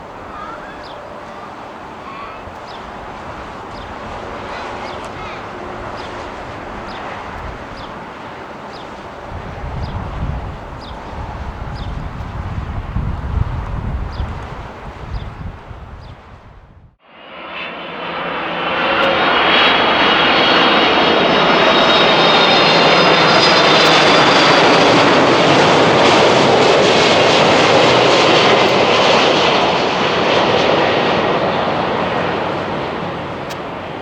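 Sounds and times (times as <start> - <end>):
jet engines roaring past: 0.0 - 34.0.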